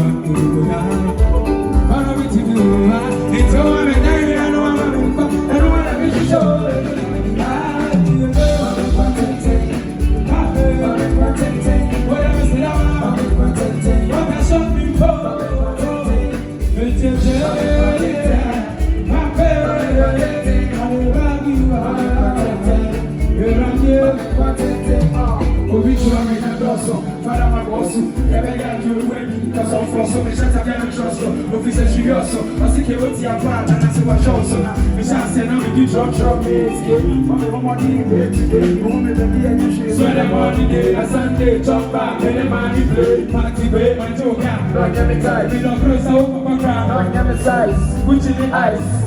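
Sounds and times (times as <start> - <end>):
pulsing bass and drum beat: 0.0 - 28.8, 30.4 - 49.0
live band playing: 0.0 - 49.0.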